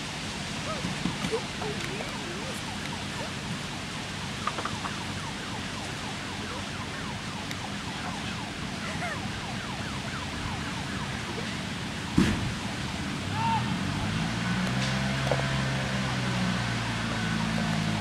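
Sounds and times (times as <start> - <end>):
fire engine engine droning: 1.2 - 18.0.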